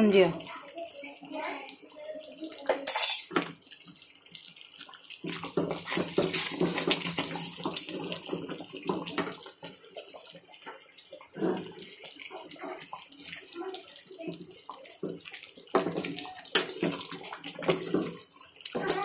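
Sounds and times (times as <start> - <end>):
spoon stirring syrup in pot: 3.3 - 19.0.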